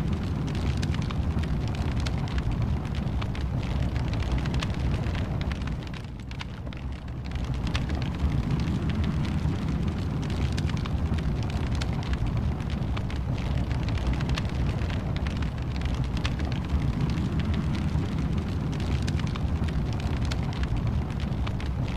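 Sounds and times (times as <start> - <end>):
low rumble of flame: 0.0 - 21.9
wood fire crackling and popping: 0.0 - 21.9.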